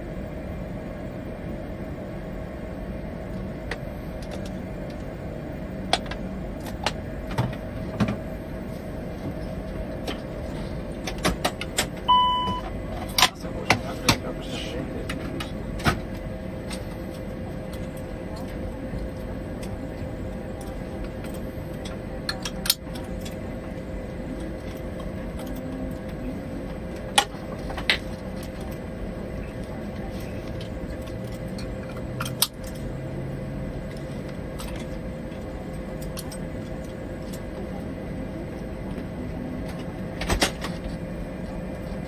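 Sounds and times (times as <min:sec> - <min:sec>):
flight deck hum: 0:00.0 - 0:42.0.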